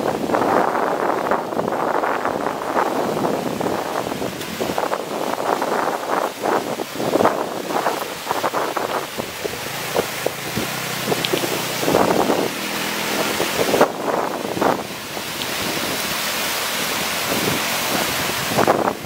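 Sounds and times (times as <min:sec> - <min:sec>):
surf washing over sand: 0:00.0 - 0:19.0
wind buffeting microphone: 0:00.0 - 0:19.0.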